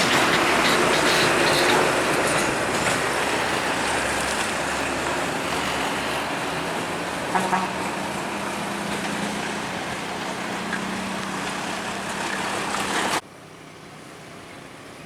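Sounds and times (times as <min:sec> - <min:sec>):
heavy truck passing: 0:00.0 - 0:14.7.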